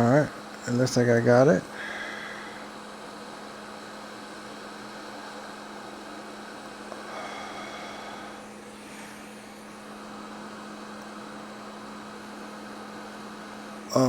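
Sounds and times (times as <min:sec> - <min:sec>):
constant low hum: 0:00.0 - 0:14.0
fan airflow hiss: 0:00.0 - 0:14.0.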